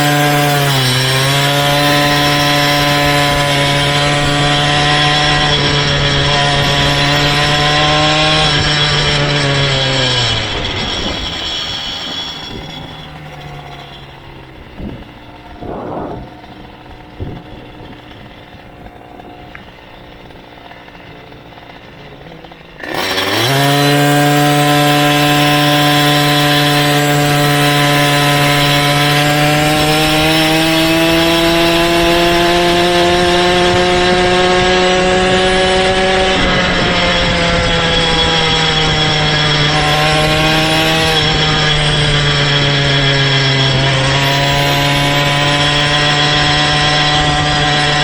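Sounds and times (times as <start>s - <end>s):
small motorized bicycle engine: 0.0s - 48.0s.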